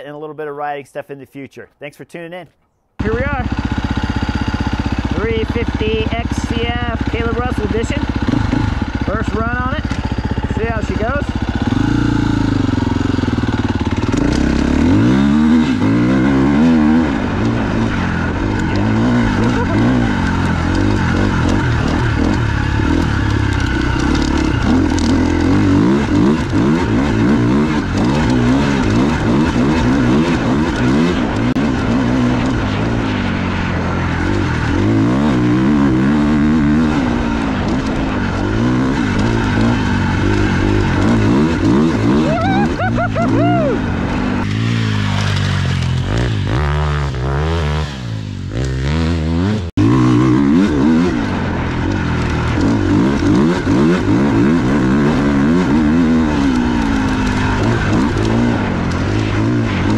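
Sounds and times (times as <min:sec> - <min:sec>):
dirt bike engine revving: 0:03.0 - 0:59.9.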